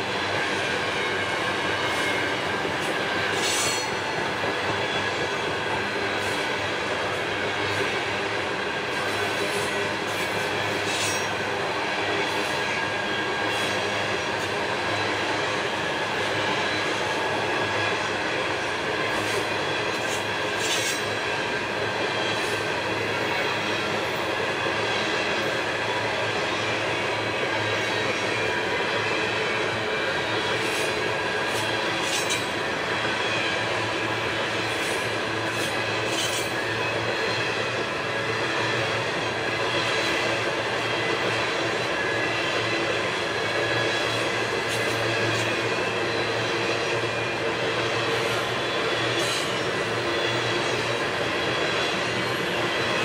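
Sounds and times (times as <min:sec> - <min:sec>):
freight cars rumbling on rails: 0:00.0 - 0:53.0.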